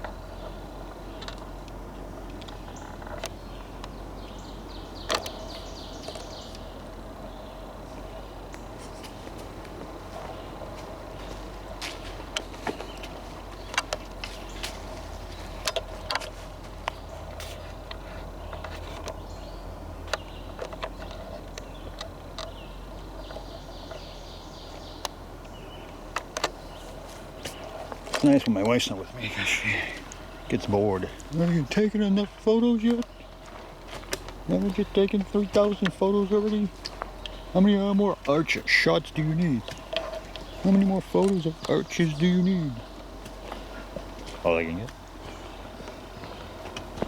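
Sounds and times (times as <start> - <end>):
small bird chirping: 0.0 - 9.4, 10.1 - 47.0
outdoor rumble: 0.0 - 47.0
songbird calling: 0.0 - 47.0.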